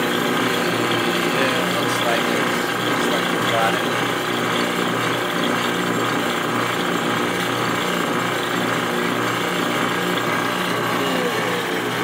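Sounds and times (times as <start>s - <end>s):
vacuum table humming and buzzing: 0.0s - 12.0s.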